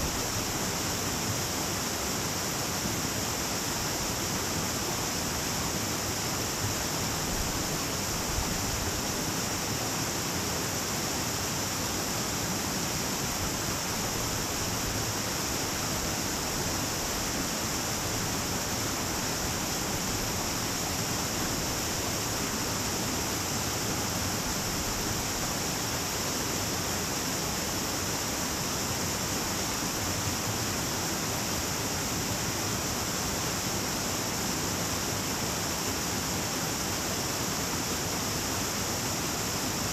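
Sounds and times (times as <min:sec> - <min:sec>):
high-pitched hiss: 0:00.0 - 0:39.9
stream water rushing over rocks: 0:00.0 - 0:39.9.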